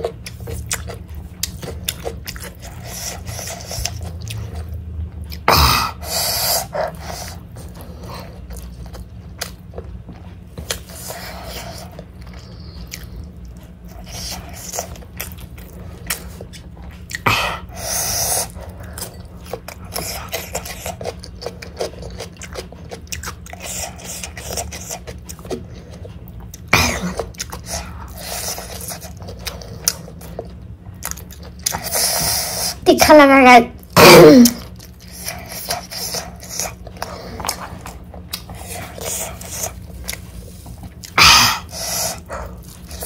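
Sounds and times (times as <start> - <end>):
person chewing food: 0.0 - 32.8, 33.8 - 43.0.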